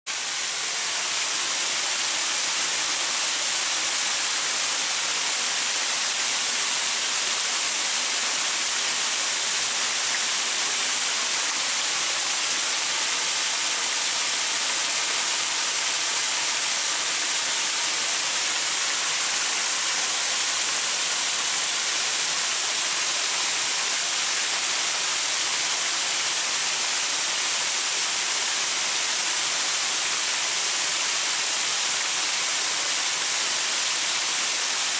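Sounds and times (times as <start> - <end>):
waterfall over rocks: 0.1 - 34.9.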